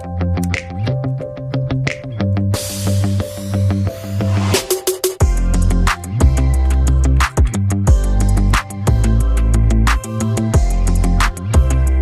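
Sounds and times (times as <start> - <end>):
music with heavy bass beat: 1.9 - 12.0.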